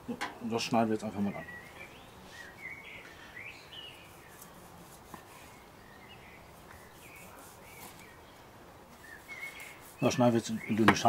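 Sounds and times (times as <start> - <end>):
birds chirping and whistling: 1.2 - 4.5, 5.4 - 11.0.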